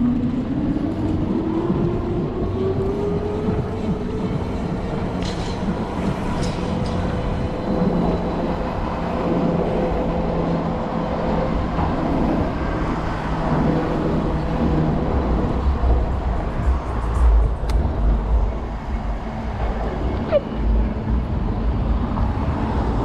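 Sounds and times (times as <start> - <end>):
city street traffic: 0.0 - 23.0.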